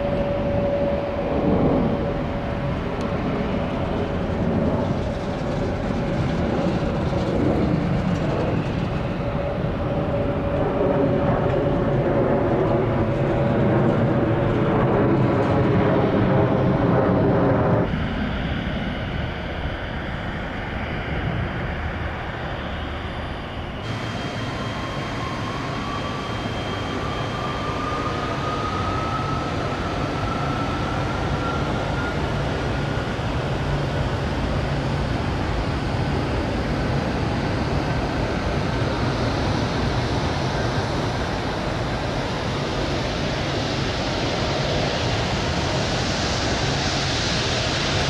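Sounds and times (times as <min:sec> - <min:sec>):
jet engine whine: 0:00.0 - 0:48.0
jet engines roaring: 0:00.0 - 0:48.0.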